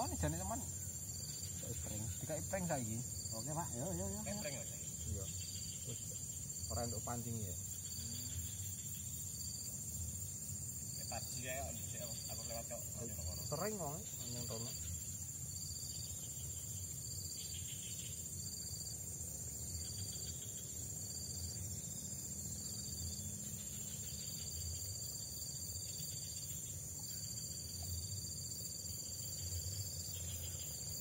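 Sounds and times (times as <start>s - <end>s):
insect high-pitched trill: 0.0s - 31.0s
insect short calls: 0.0s - 31.0s.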